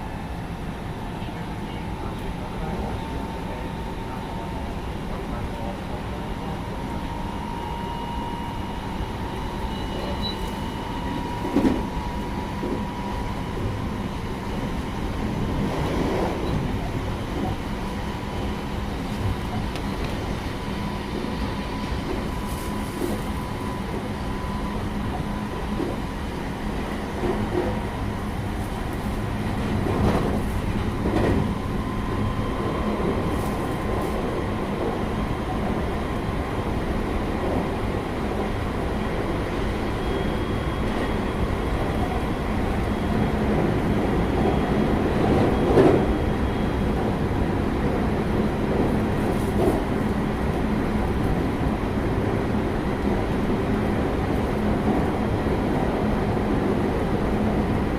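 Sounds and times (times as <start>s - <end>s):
train rumble: 0.0s - 57.9s.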